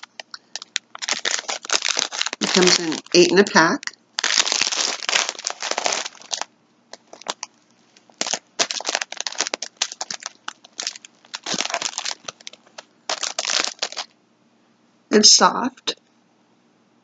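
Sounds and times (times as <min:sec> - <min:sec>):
plastic pack crinkling: 0:00.0 - 0:14.1.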